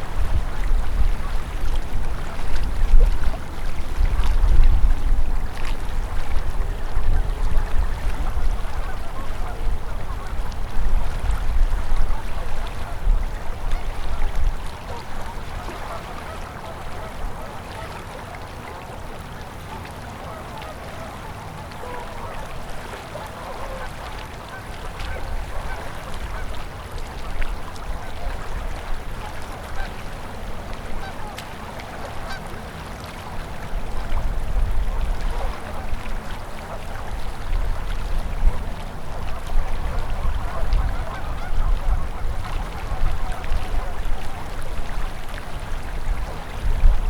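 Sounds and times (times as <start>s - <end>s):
river water babbling: 0.0s - 47.0s.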